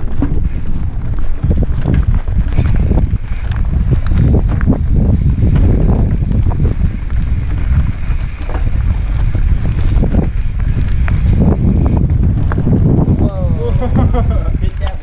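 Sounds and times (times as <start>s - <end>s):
bike rattling over rocks: 0.0s - 15.0s
wind buffeting microphone: 0.0s - 15.0s.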